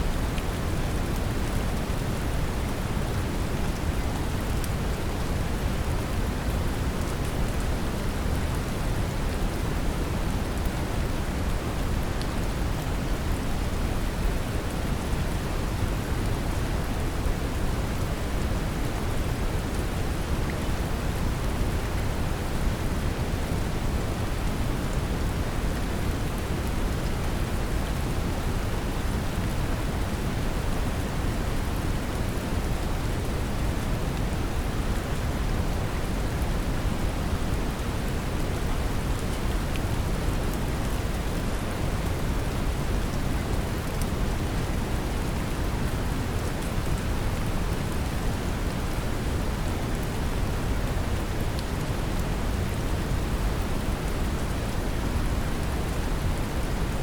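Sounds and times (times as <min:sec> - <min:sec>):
brown noise hiss: 0:00.0 - 0:57.0
gentle rain patter: 0:00.0 - 0:57.0.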